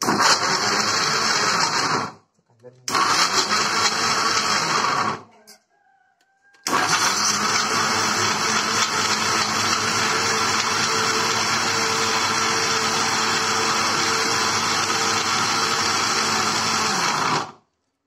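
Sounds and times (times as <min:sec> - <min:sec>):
electric mixer grinder running: 0:00.0 - 0:02.2, 0:02.9 - 0:05.2, 0:06.7 - 0:17.6.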